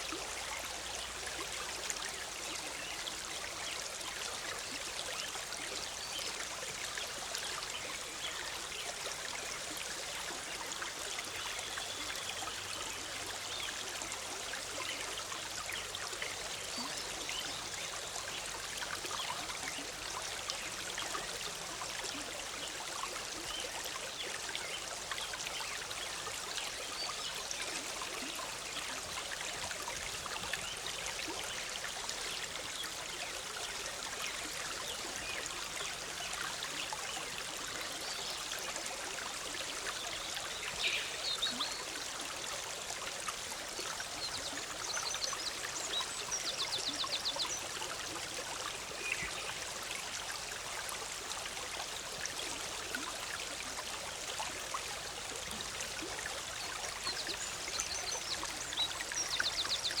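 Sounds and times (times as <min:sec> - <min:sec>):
stream splashing over rocks: 0:00.0 - 1:00.0.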